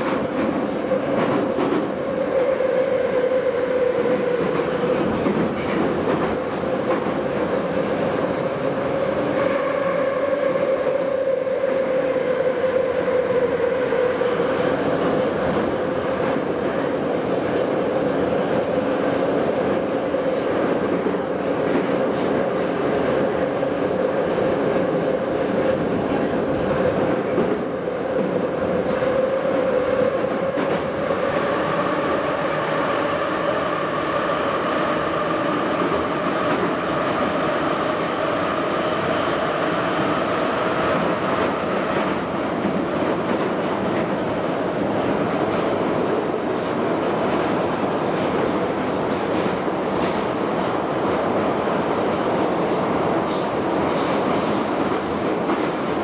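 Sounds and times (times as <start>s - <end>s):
wheels roaring on rail: 0.0s - 56.0s.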